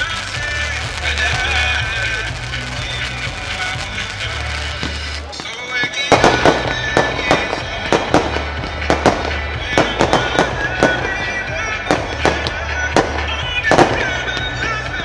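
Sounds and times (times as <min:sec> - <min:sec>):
music with steady bass line: 0:00.0 - 0:15.0.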